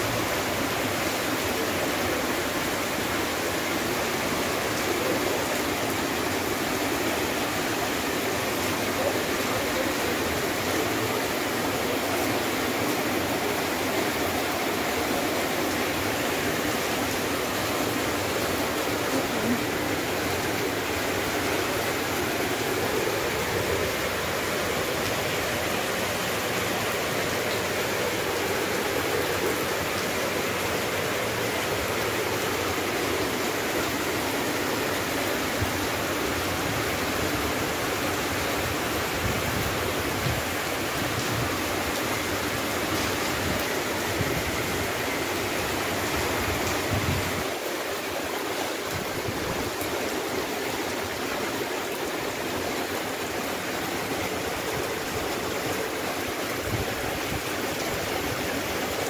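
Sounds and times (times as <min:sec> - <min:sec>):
heavy rain on wet pavement: 0:00.0 - 0:59.0
runoff water rushing: 0:00.0 - 0:59.0.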